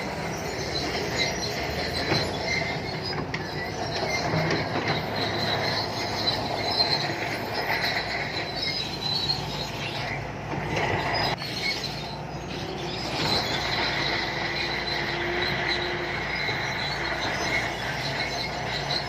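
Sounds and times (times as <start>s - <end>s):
bulldozer diesel engine: 0.0s - 19.0s
steel tracks squealing: 0.0s - 19.0s.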